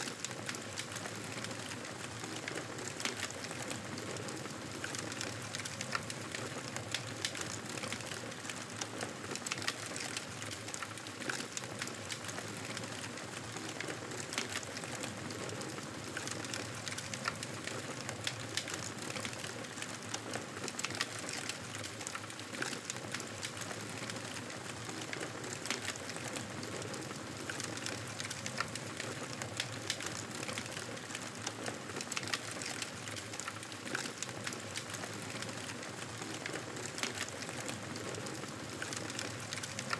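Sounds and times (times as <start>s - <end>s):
burning wood crackling and popping: 0.0s - 39.9s.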